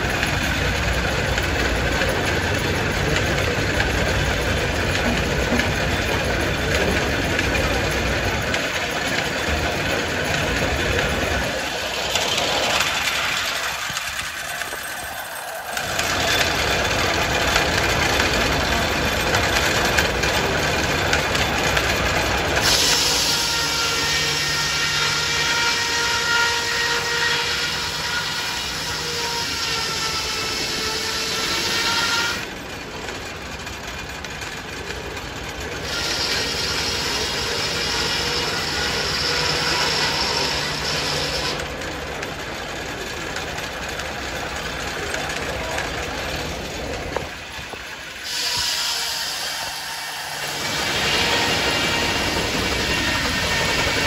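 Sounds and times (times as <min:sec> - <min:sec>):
saw blade whining through log: 0:00.0 - 0:54.0
steam engine running sawmill: 0:00.0 - 0:54.0.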